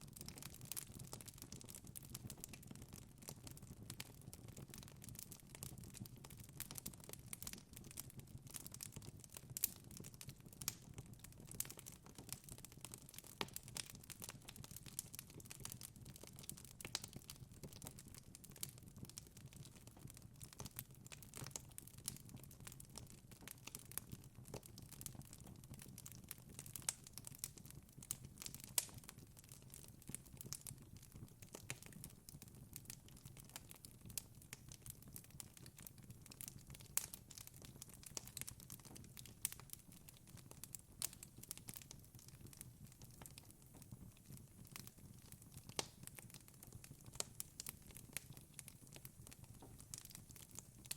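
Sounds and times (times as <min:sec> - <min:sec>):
burning logs crackling and popping: 0:00.0 - 0:50.9.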